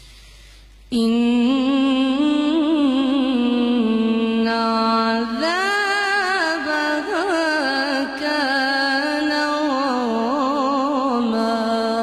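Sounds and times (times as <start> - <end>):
woman reciting in melodic chant: 0.9 - 12.0.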